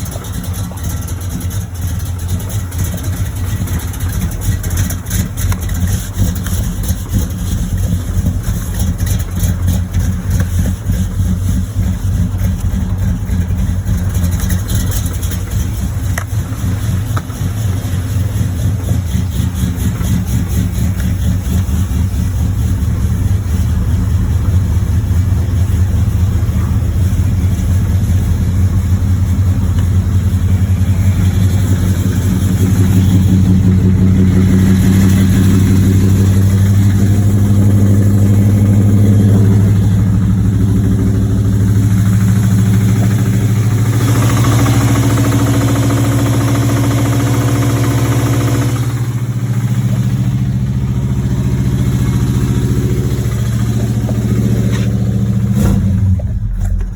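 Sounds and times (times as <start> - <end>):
car engine running: 0.0 - 56.9.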